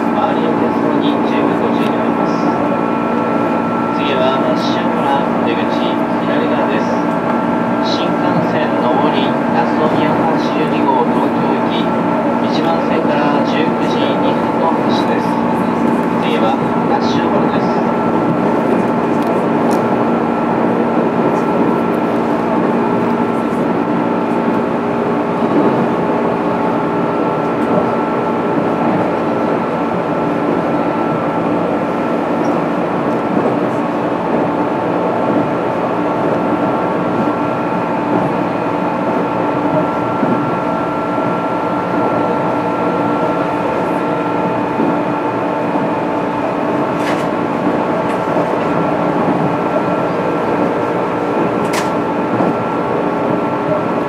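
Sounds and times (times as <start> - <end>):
train motor and gear whine: 0.0 - 54.0
wheel and track noise: 0.0 - 54.0.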